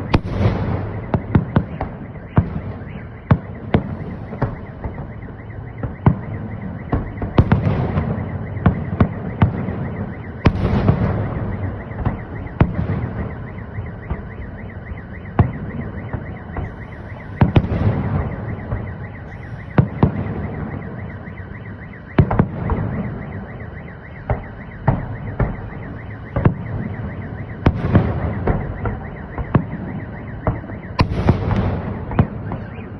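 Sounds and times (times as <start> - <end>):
firework bangs: 0.0 - 21.0, 22.1 - 23.6, 24.2 - 32.9
rolling firework booms: 0.0 - 32.9.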